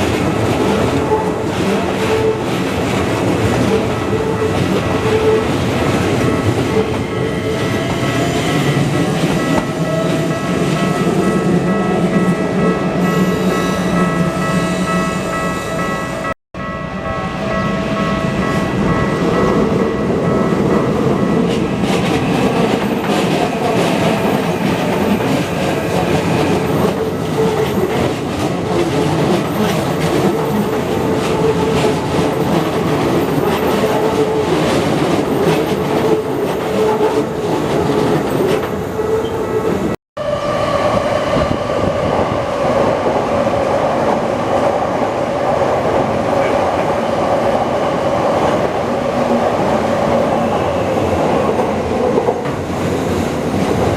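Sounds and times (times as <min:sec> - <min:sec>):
crossing alarm warning tones: 0:00.2 - 0:43.5.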